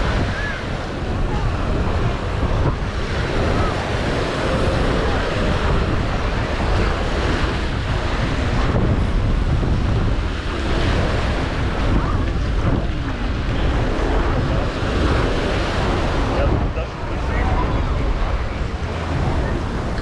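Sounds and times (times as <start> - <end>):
surf washing onto beach: 0.0 - 20.0
wind rumble on microphone: 0.0 - 20.0.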